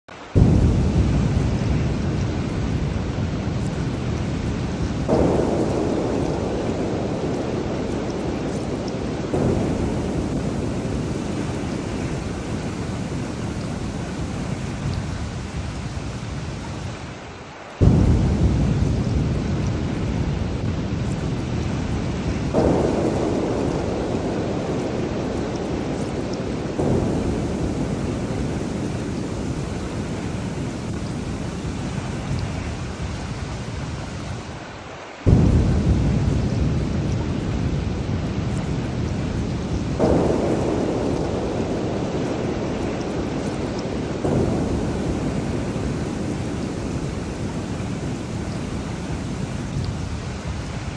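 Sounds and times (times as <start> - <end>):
heavy rain: 0.0 - 50.9
rolling thunder: 0.2 - 17.1, 17.8 - 34.6, 35.3 - 50.9.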